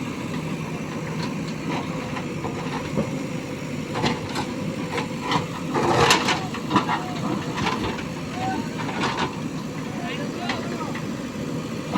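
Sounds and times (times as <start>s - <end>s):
diesel engine running: 0.0s - 11.9s
engine knocks and clatter: 0.0s - 11.9s.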